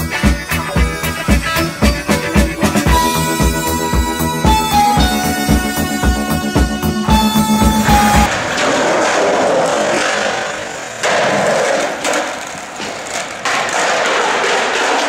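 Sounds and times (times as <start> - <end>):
skateboard knocking: 0.0 - 15.0
skateboard wheels rolling on concrete: 0.0 - 15.0.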